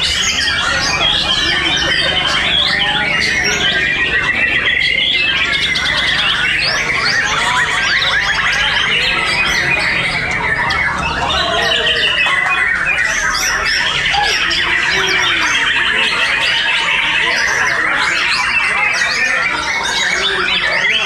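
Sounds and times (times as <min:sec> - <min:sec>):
chorus of birds singing: 0:00.0 - 0:21.0.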